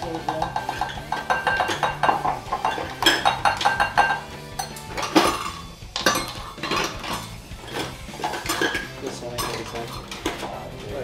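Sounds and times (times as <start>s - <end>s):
metal utensils clinking on pan: 0.1s - 11.0s.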